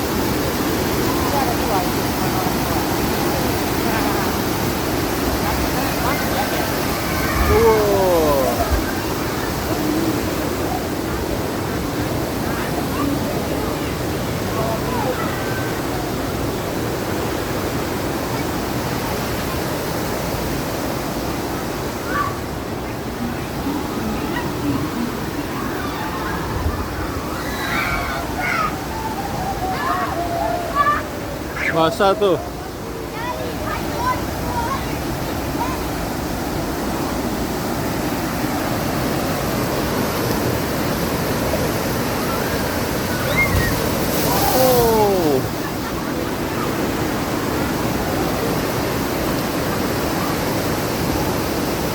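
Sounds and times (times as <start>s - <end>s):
rushing churning water: 0.0s - 51.9s.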